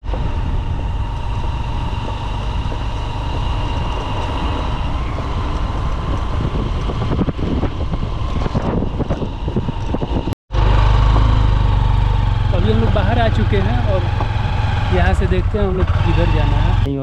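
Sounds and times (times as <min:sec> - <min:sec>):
motorcycle engine running: 0:00.0 - 0:16.9
wind buffeting microphone: 0:00.0 - 0:16.9.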